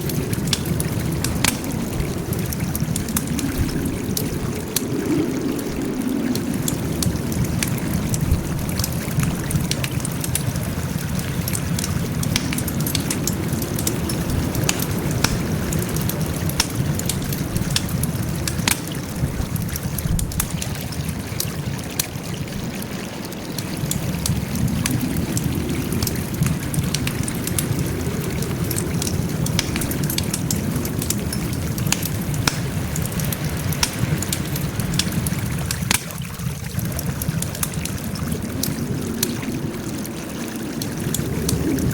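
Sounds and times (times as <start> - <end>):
burning wood crackling and popping: 0.0 - 41.9
low rush of flames: 0.0 - 41.9.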